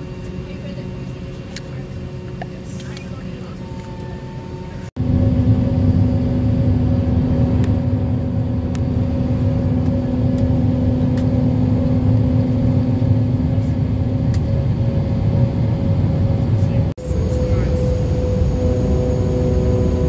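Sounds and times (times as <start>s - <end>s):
jet engines and airflow rumble: 0.0s - 20.0s.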